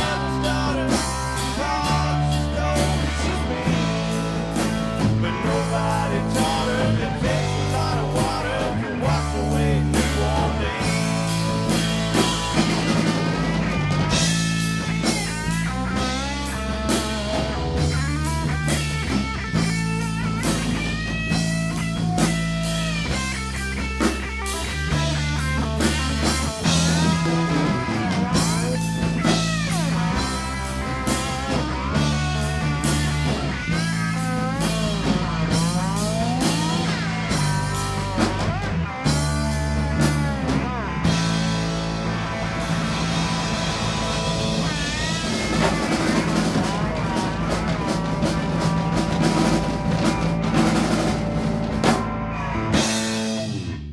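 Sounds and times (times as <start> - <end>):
bass guitar: 0.0 - 53.9
drum kit: 0.0 - 53.9
electric guitar lead: 0.0 - 53.9.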